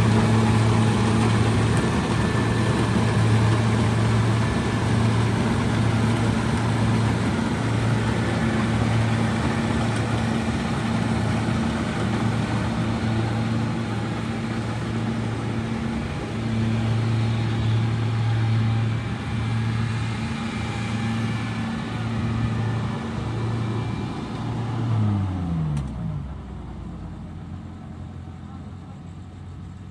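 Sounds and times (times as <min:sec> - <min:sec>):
machine rushing noise: 0:00.0 - 0:25.8
combine harvester engine humming: 0:00.0 - 0:29.9.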